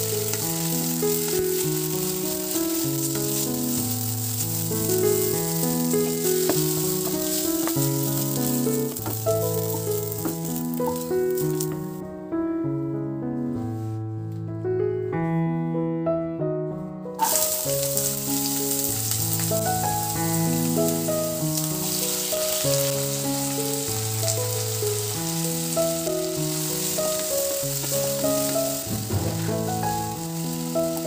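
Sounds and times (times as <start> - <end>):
onions sizzling in hot oil: 0.0 - 12.0, 17.2 - 31.0
background music with melody: 0.0 - 31.0.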